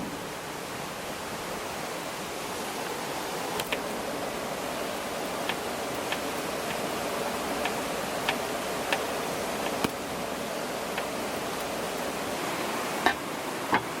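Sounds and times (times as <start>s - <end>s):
wood fire crackling: 2.3s - 14.0s.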